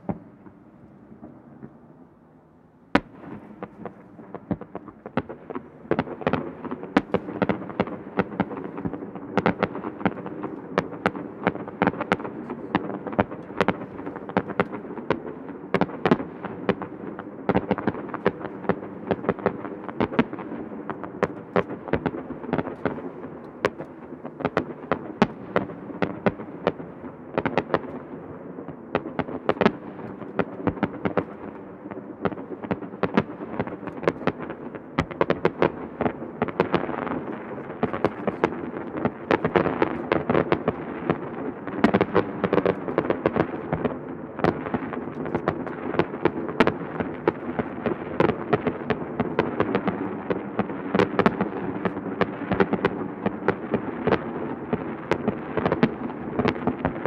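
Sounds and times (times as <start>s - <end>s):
fireworks bangs: 0.0s - 2.2s, 2.9s - 57.0s.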